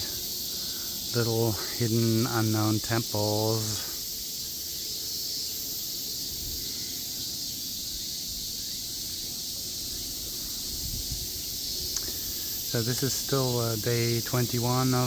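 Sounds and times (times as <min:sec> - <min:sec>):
cicadas chorus: 0:00.0 - 0:15.0.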